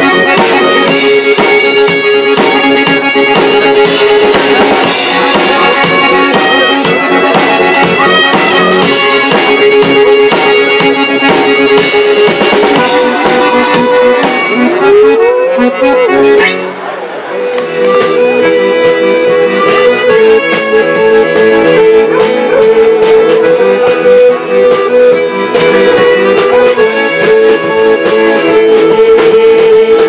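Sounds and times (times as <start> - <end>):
drums: 0.0 - 16.8, 17.5 - 30.0
accordion: 0.0 - 30.0
fiddle: 0.0 - 30.0
live band music: 0.0 - 30.0.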